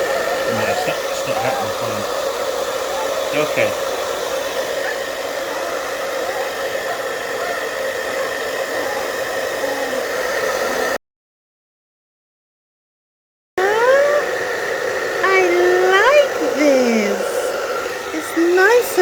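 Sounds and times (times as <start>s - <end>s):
hair dryer blowing: 0.0s - 11.0s, 13.6s - 19.0s.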